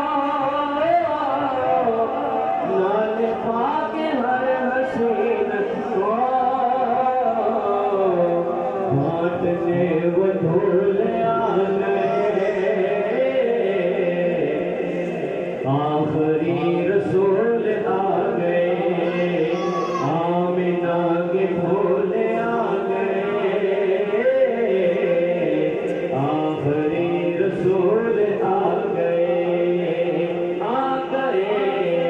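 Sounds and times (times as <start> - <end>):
man chanting into a microphone: 0.0 - 32.0.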